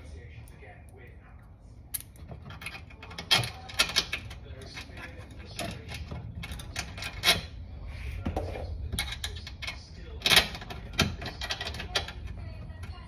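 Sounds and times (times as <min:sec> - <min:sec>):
parts clicking and rubbing: 0:01.9 - 0:13.0.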